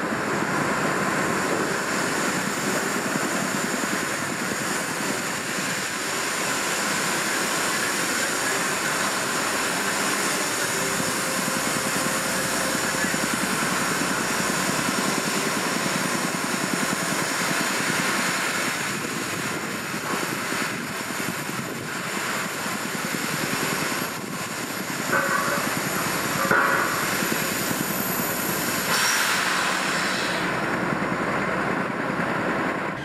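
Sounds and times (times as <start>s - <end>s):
heavy earthmoving machinery: 0.0s - 33.0s.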